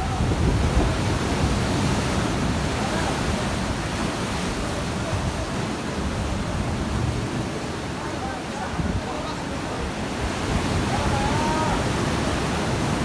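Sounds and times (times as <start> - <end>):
sea waves splashing on shore: 0.0 - 13.0.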